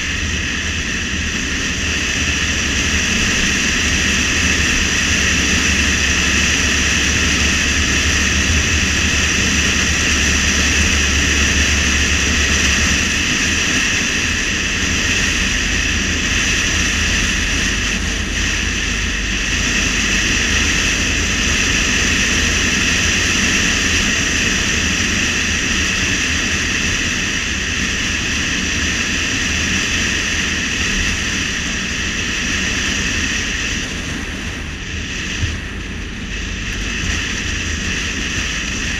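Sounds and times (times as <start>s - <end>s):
car driving at road speed: 0.0s - 38.9s.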